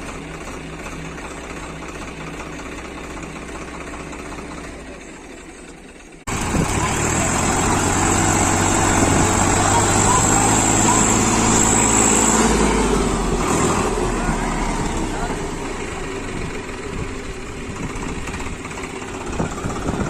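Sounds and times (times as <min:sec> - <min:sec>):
high engine whine: 0:00.0 - 0:20.0
tractor engine running: 0:00.0 - 0:20.0.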